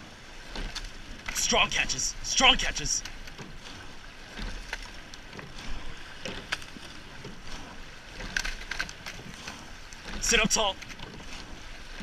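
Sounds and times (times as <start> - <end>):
oars clacking in oarlocks: 0.0 - 12.0
water rushing: 0.0 - 12.0.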